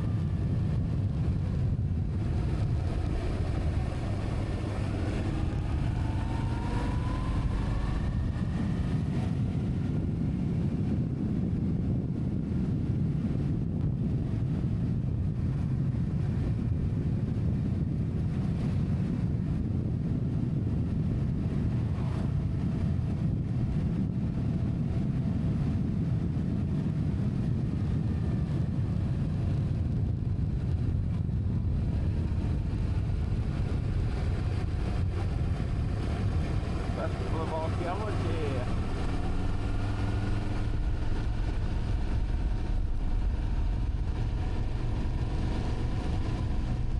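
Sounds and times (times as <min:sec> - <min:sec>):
vehicle engine running: 0:00.0 - 0:46.9
wind rumble on microphone: 0:00.0 - 0:46.9.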